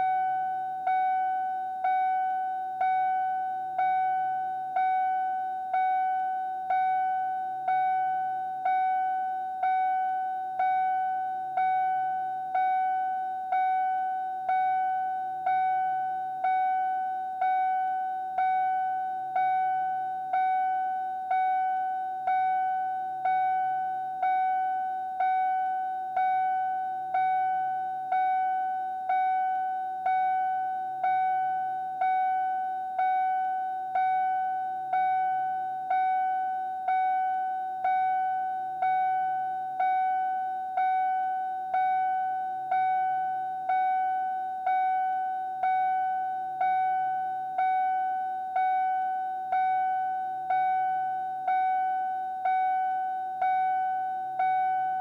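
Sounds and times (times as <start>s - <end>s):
car door warning chime: 0.0s - 55.0s.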